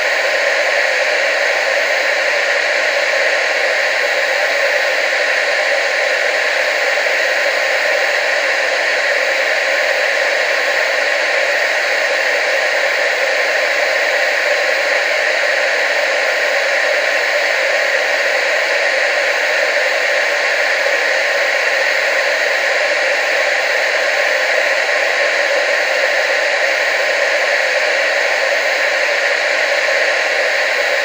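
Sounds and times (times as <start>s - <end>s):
television static hiss: 0.0s - 31.0s.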